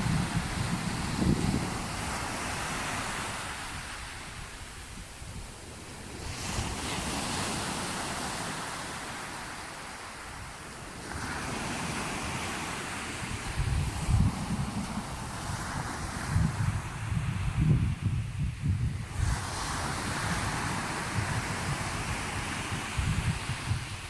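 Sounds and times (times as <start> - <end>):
wind on microphone: 0.0 - 9.5, 10.4 - 24.0
sea waves washing in: 0.0 - 24.0.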